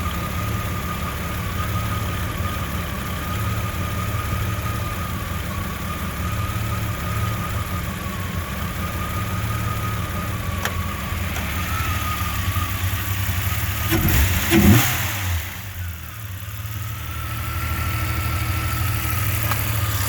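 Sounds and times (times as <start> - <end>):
engine idling roughly: 0.0 - 20.0.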